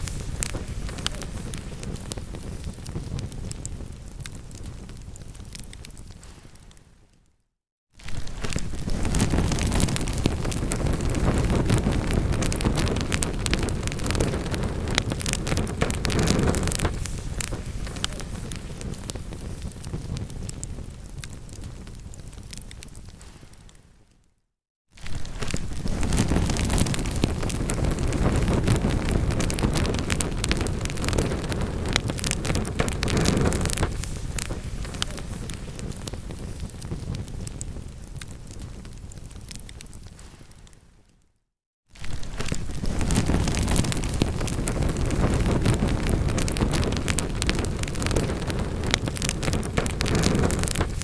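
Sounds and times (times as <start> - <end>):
burning logs crackling and popping: 0.0 - 7.0, 8.0 - 23.8, 25.0 - 40.8, 42.0 - 51.0
low rumble of fire flames: 0.0 - 7.2, 8.0 - 23.8, 25.0 - 41.2, 42.0 - 51.0.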